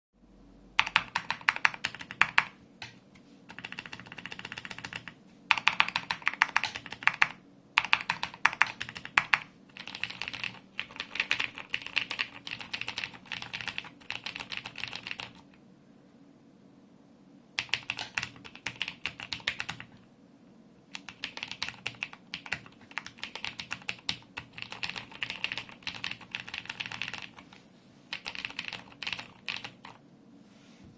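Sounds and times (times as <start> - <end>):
typing on mechanical keyboard: 0.8 - 15.6, 17.6 - 20.0, 20.9 - 27.5, 28.1 - 30.0.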